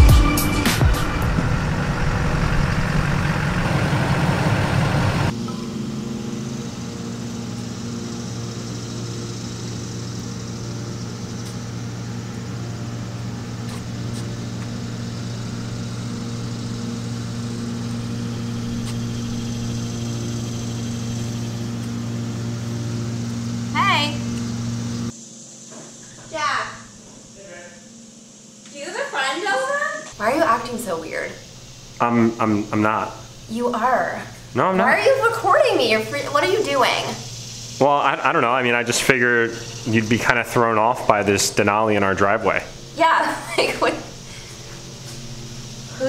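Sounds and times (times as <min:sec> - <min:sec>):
pickup truck engine running: 0:00.0 - 0:25.1, 0:30.2 - 0:46.0
steady low hum: 0:00.0 - 0:46.0.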